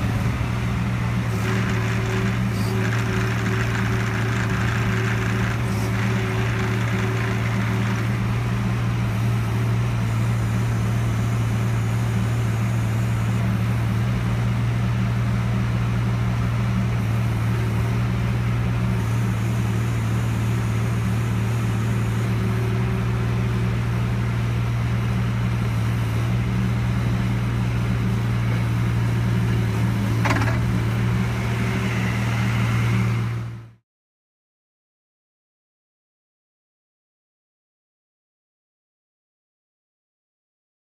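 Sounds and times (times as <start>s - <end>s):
diesel engine running: 0.0s - 33.8s.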